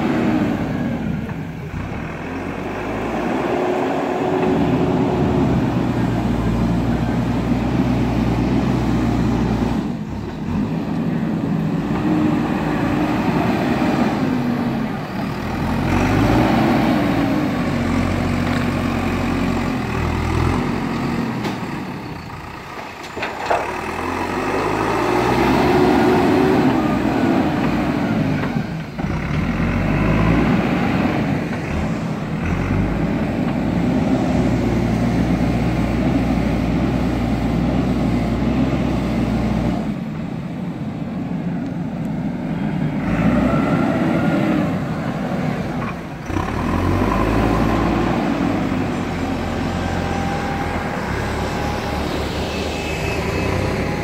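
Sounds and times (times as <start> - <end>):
diesel engine revving under load: 0.0 - 54.0.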